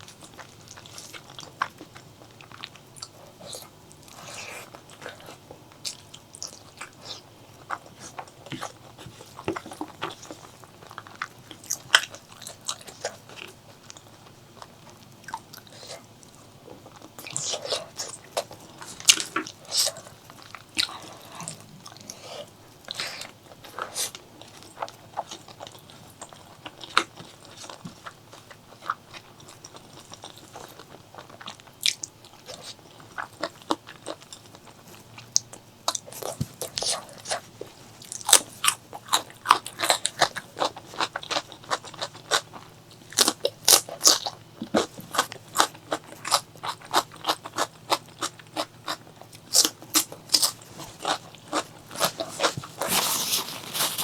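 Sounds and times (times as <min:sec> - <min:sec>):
close chewing and biting: 0:00.0 - 0:54.0.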